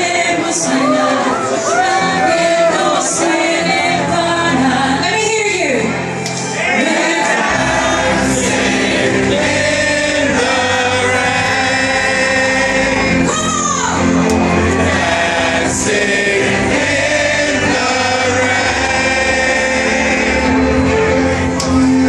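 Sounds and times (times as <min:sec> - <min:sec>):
pop backing music: 0:00.0 - 0:22.0.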